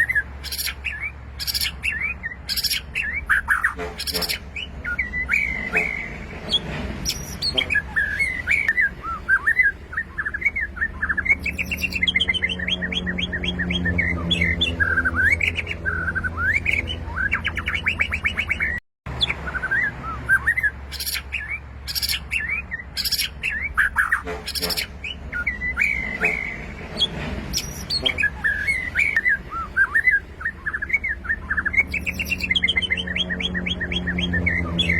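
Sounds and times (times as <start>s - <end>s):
bird singing whistled phrases: 0.0s - 34.9s.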